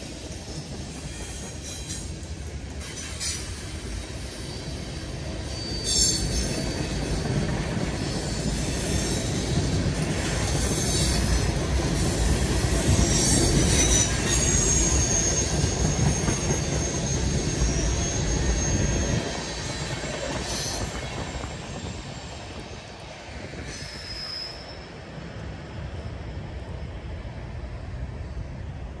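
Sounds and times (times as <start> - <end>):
freight train wheels rumbling: 0.0 - 29.0
high wheel squeal: 0.3 - 22.7, 23.4 - 25.2.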